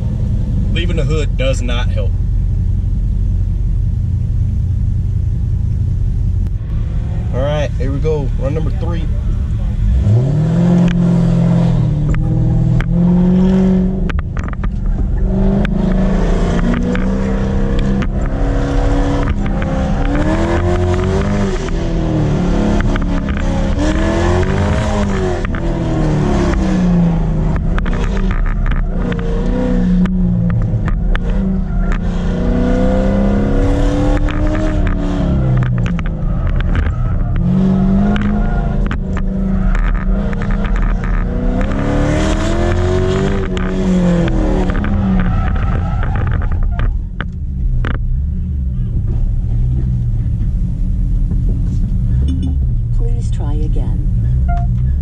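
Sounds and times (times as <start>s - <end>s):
car engine accelerating hard: 5.6s - 55.0s.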